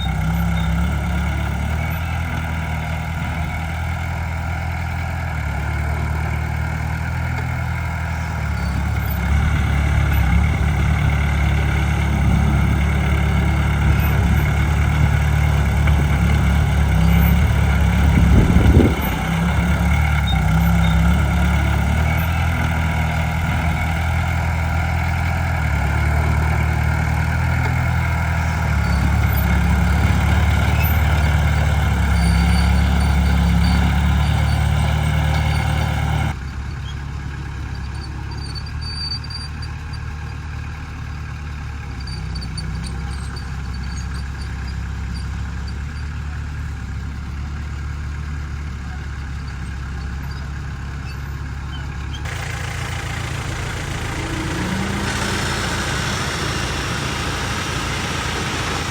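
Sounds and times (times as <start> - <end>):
diesel earthmoving machinery running: 0.0 - 58.9.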